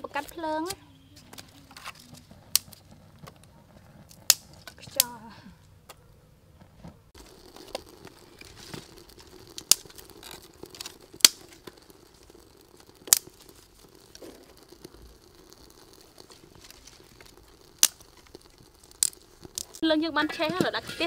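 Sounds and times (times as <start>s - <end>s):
twigs rustling and crackling: 0.0s - 6.0s, 6.6s - 21.0s.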